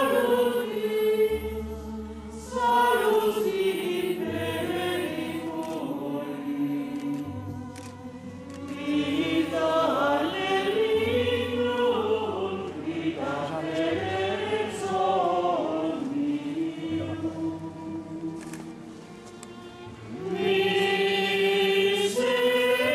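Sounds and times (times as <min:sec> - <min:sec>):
choir singing: 0:00.0 - 0:22.9.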